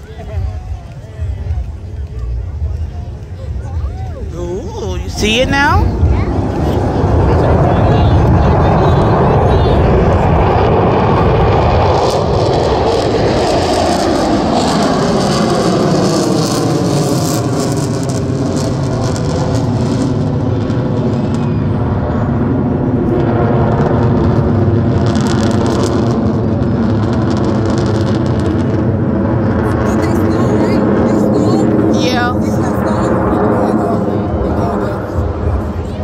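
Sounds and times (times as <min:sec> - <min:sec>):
jets flying past: 0:04.2 - 0:36.0.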